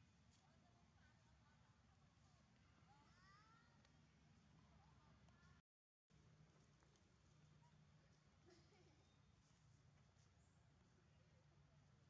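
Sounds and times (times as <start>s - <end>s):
faint low hum with hiss: 0.0s - 12.0s.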